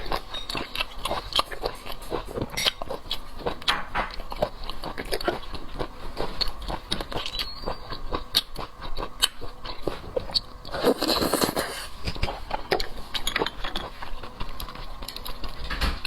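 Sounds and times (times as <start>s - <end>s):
chewing seafood: 0.0s - 16.0s.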